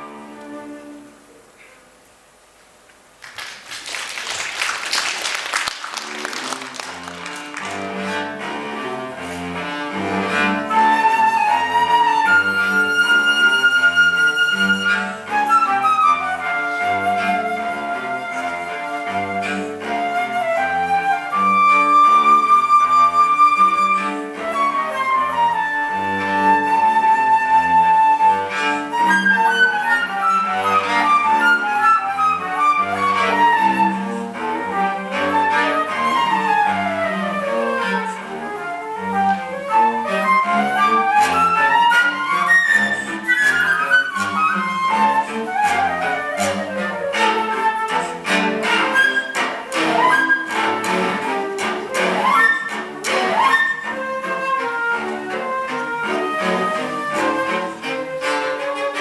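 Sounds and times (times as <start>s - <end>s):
flute: 0.0s - 1.4s, 10.1s - 59.0s
cello accompaniment: 0.0s - 1.7s, 4.3s - 59.0s.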